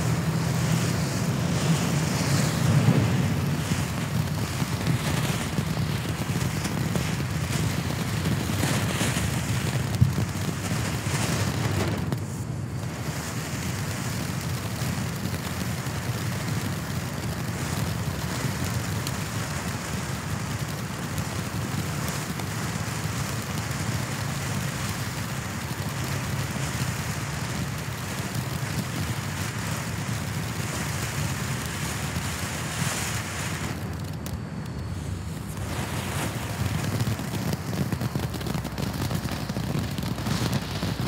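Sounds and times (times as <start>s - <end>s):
firework spraying sparks hiss: 0.0s - 41.0s.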